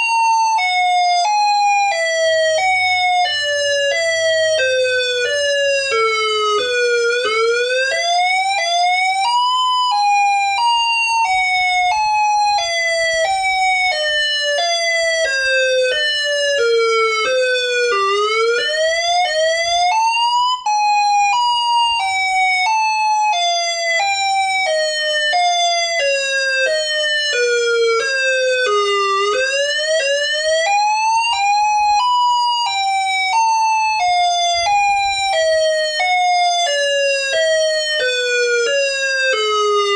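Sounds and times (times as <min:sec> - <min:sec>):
tornado siren wailing: 0:00.0 - 0:39.9.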